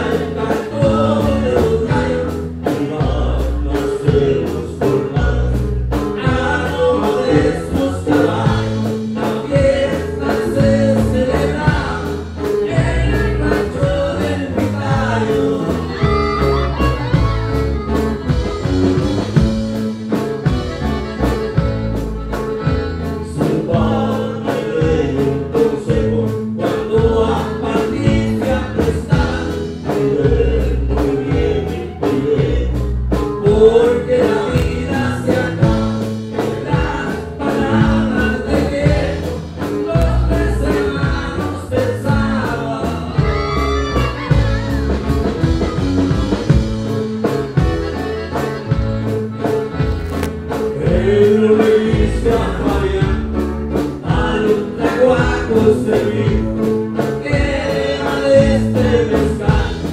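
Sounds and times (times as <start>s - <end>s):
man singing: 0.0s - 21.7s, 22.3s - 46.6s, 50.5s - 59.9s
accordion: 0.0s - 59.9s
drums: 0.0s - 59.9s
strummed guitar: 0.0s - 59.9s.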